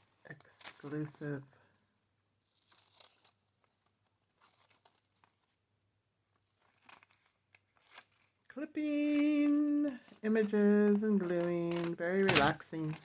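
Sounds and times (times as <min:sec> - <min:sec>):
paper rustling: 0:00.0 - 0:01.4, 0:02.3 - 0:13.0.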